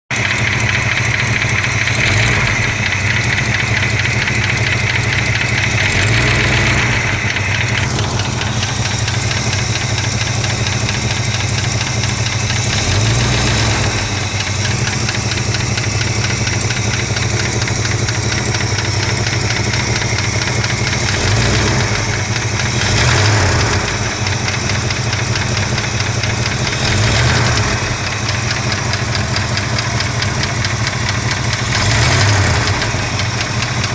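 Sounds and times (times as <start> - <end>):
engine idling: 0.0 - 33.9
fast even ticking: 0.1 - 33.9.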